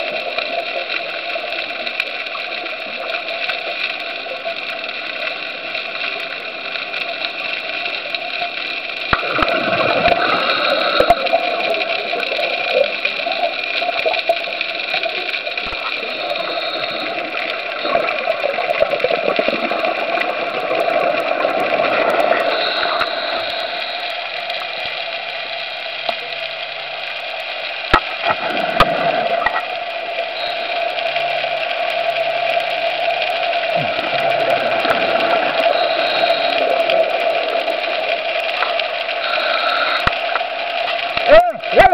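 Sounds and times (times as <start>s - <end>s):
underwater hiss and rush: 0.0s - 41.9s.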